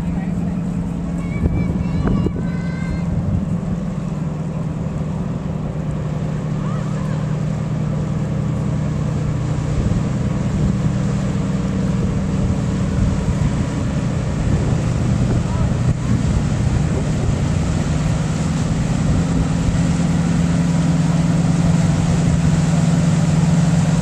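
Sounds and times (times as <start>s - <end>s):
ship diesel engines droning: 0.0s - 24.0s.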